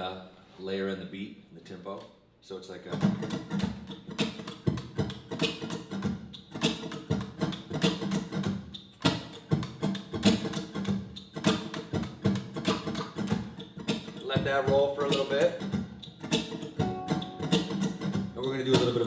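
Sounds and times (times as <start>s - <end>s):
repeating percussive beat: 3.0s - 19.0s.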